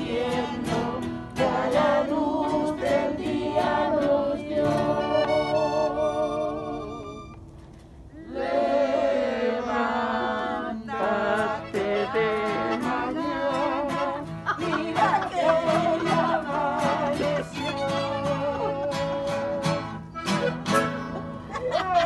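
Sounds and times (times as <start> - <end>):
group singing: 0.0 - 7.1, 8.2 - 20.0
acoustic guitars violin and accordion: 0.0 - 8.0, 8.6 - 22.0.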